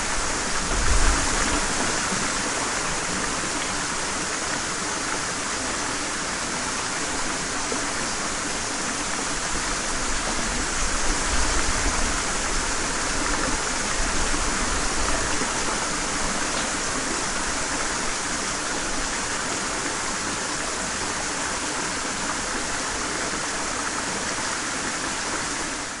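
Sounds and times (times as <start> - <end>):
stream water running: 0.0 - 26.0.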